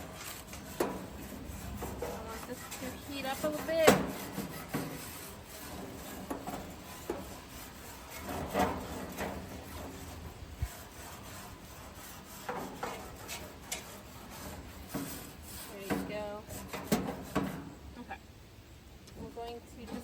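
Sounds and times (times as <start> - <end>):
scraping and knocking: 0.0 - 17.8.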